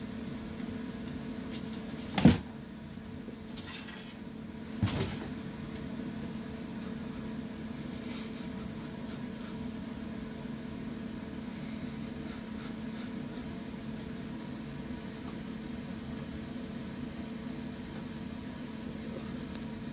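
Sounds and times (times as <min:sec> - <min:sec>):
steady hum: 0:00.0 - 0:19.9.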